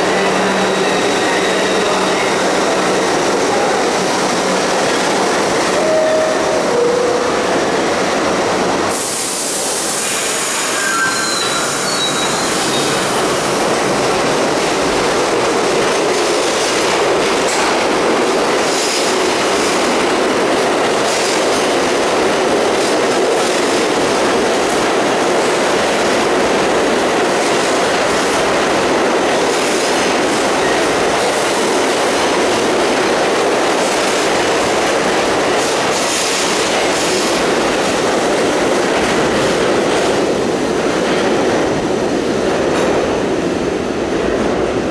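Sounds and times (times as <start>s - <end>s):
subway train rumbling: 0.0s - 44.9s.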